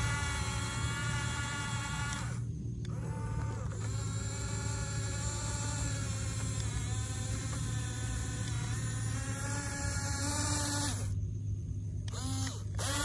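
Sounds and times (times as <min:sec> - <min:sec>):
toy bulldozer motors whining: 0:00.0 - 0:11.2, 0:12.0 - 0:13.0.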